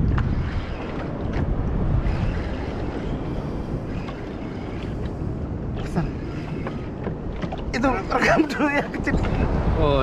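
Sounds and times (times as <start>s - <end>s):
water moving around boat: 0.0s - 10.0s
wind noise on microphone: 0.0s - 10.0s.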